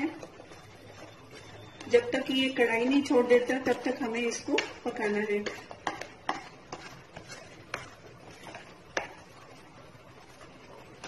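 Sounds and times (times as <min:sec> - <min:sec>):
spatula scraping a pan: 0:00.0 - 0:11.0.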